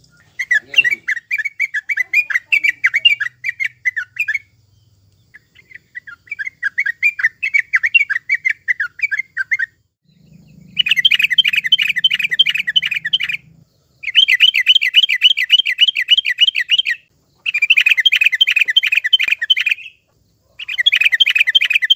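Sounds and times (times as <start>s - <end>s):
bird singing chattering notes: 0.0s - 21.9s.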